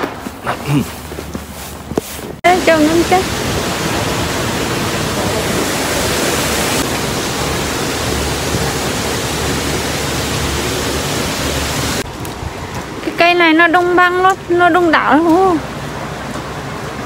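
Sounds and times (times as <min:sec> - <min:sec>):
rushing water: 0:02.4 - 0:17.0.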